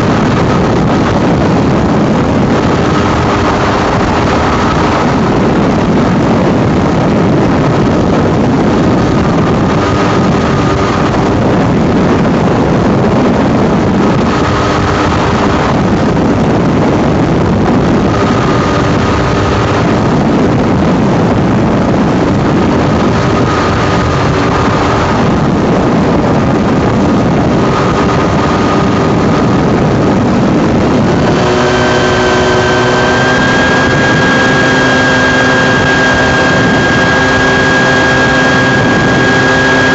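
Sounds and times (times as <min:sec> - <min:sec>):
ultralight aircraft engine: 0:00.0 - 0:39.9
wind rushing over microphone: 0:00.0 - 0:39.9.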